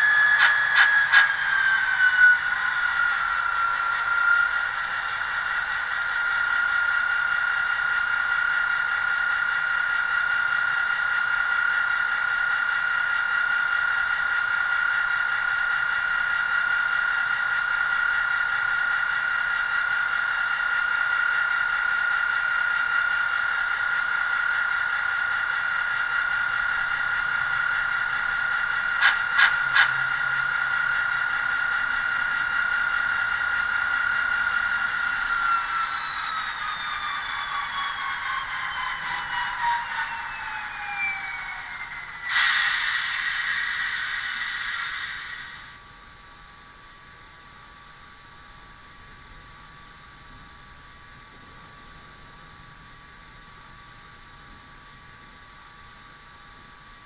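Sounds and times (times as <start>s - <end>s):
model locomotive engine hum: 0.0s - 57.0s.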